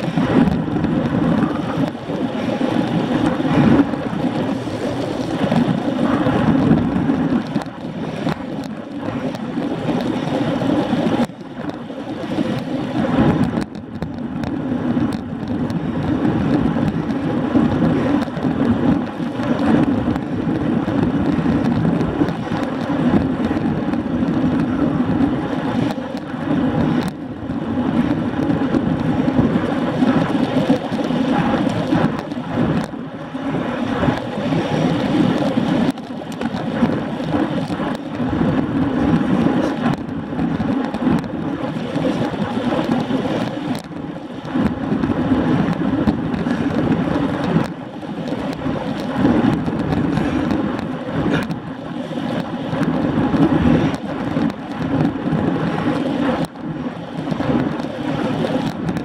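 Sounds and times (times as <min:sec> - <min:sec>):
tyre noise on tarmac: 0:00.0 - 0:59.0
wind rushing over microphone: 0:00.0 - 0:59.0.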